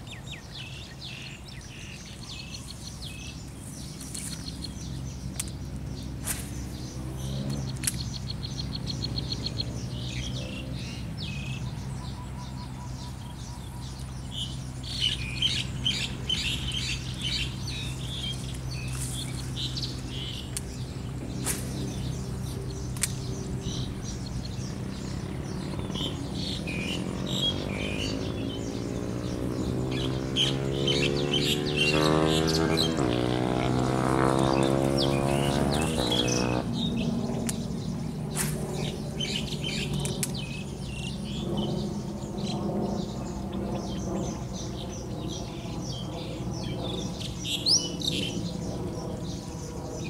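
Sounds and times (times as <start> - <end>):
small birds chirping: 0.0 - 50.0
steady low hum: 1.5 - 31.8, 32.4 - 50.0.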